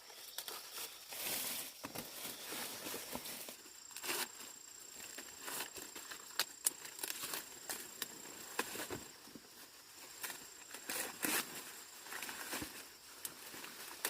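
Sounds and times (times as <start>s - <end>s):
dry corn leaves rustling: 0.0s - 14.0s.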